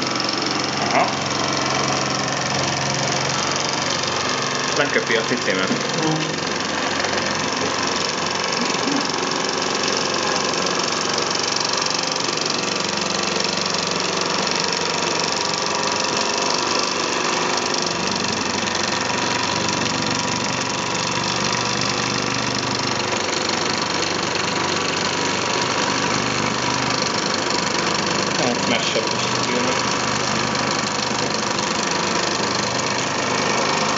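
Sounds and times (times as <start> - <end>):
model steam engine chuffing: 0.0 - 33.9.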